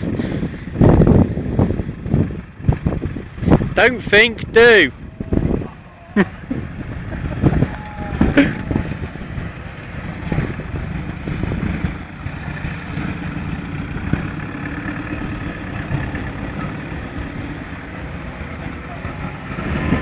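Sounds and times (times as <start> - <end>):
pickup truck engine droning: 0.0 - 20.0.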